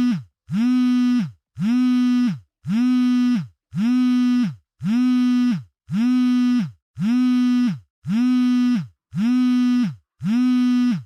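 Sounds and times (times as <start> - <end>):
mobile phone vibrating: 0.0 - 11.0.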